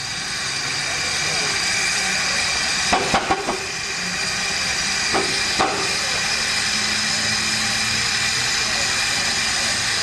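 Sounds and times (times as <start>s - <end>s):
steam locomotive hissing: 0.0s - 10.0s.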